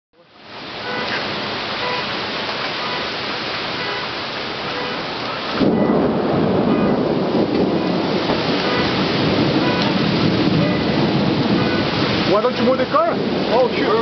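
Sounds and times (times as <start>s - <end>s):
heavy downpour: 0.2s - 14.0s
wind: 0.2s - 14.0s.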